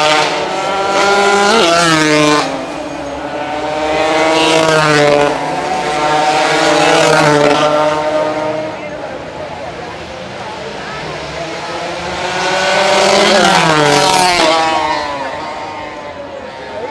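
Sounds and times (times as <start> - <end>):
racing motorcycle engines revving: 0.0 - 16.9.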